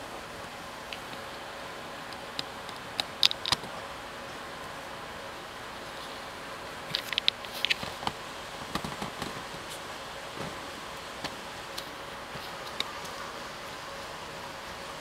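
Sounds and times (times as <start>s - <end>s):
faint hum: 0.0s - 15.0s
steady hiss: 0.0s - 15.0s.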